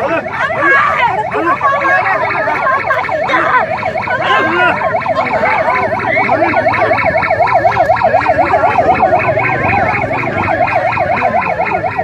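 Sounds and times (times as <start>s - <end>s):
police siren yelping: 0.0s - 12.0s.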